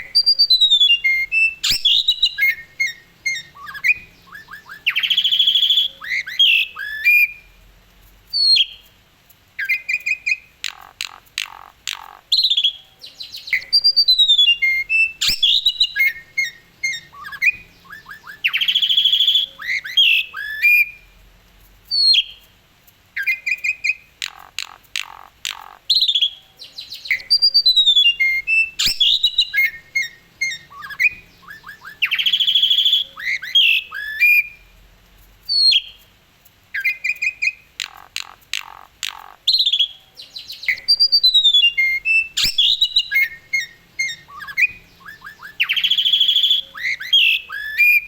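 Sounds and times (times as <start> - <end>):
starling singing: 0.0 - 7.5, 9.6 - 21.0, 23.2 - 34.6, 36.8 - 48.0.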